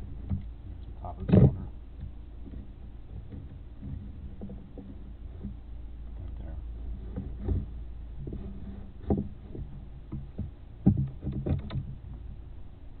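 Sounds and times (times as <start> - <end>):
handling knocks and bumps: 0.0 - 13.0.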